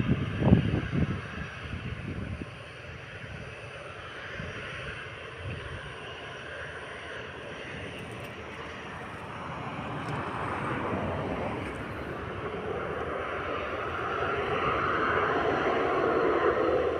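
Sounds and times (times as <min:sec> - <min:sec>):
jet airliner engines running: 0:00.0 - 0:16.9.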